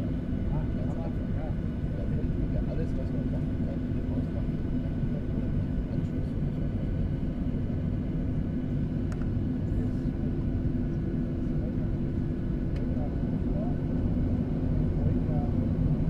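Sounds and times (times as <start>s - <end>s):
aircraft cabin engine drone: 0.0s - 16.0s.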